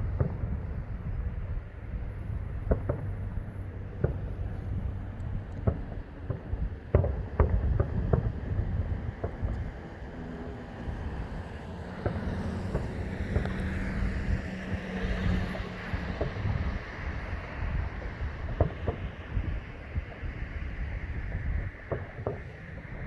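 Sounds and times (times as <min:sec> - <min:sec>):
distant fireworks bangs: 0:00.0 - 0:23.0
steady low rumble: 0:00.0 - 0:23.0.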